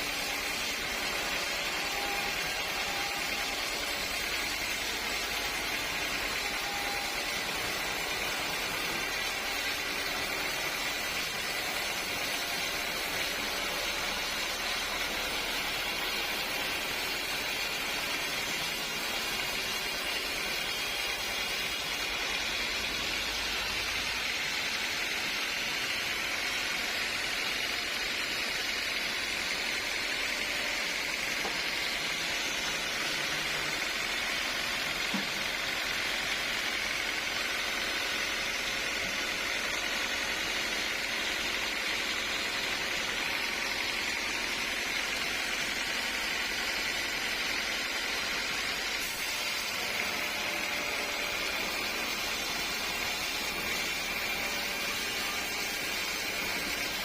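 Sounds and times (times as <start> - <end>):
sawmill machinery hissing: 0.0 - 57.0.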